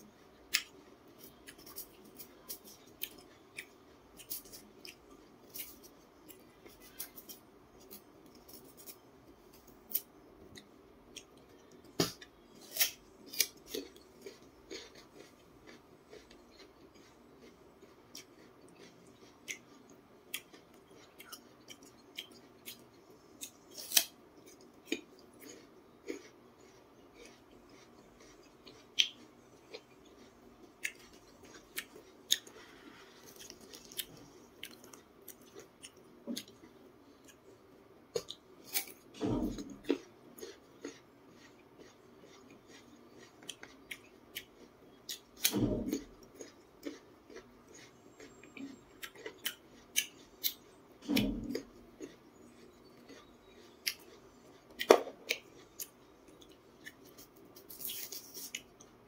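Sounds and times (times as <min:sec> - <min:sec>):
crisp chewing crunches: 0:00.5 - 0:59.0.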